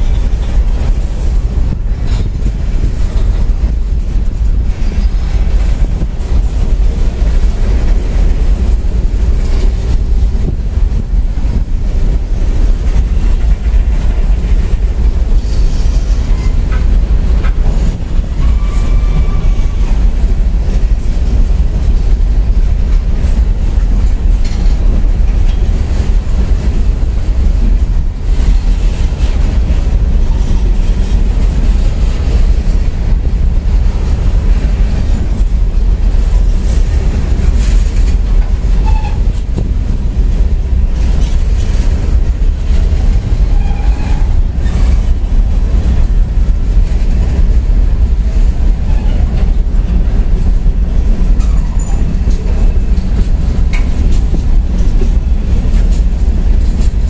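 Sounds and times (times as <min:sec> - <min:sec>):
clickety-clack of rail joints: 0:00.0 - 0:57.0
freight train wheels rumbling: 0:00.0 - 0:57.0.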